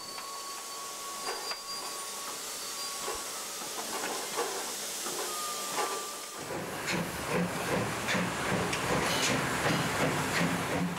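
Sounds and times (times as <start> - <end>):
steam locomotive hissing: 0.0 - 10.9
steam engine exhaust beat: 2.1 - 10.9.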